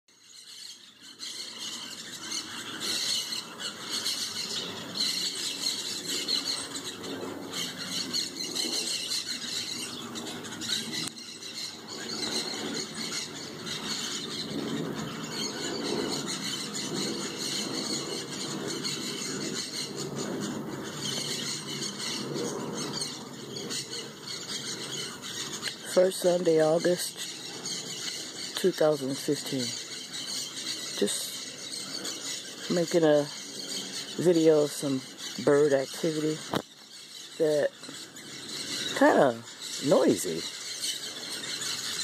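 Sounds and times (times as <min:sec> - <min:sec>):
flock of birds squawking: 0:00.1 - 0:42.0.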